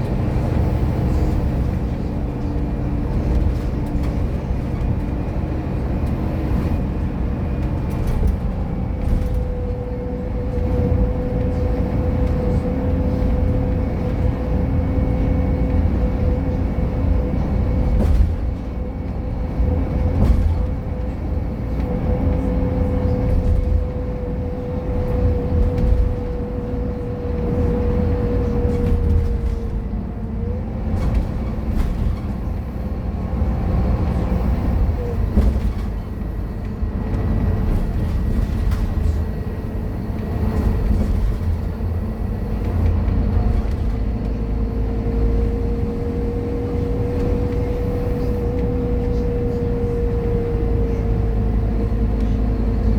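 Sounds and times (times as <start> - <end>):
bus engine rumble: 0.0 - 52.9.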